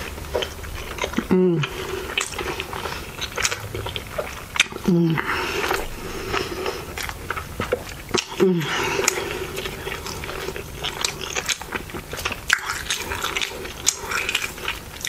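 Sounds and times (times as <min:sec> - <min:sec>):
person chewing food: 0:00.0 - 0:15.0
voiced hum: 0:00.0 - 0:15.0.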